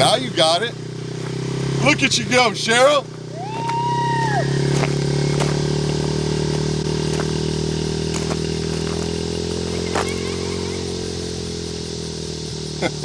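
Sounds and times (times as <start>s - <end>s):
mini bike engine running: 0.0s - 13.0s.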